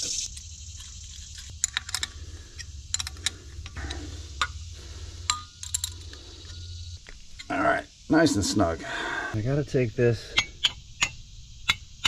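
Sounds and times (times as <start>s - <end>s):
low steady hum: 0.0s - 10.4s.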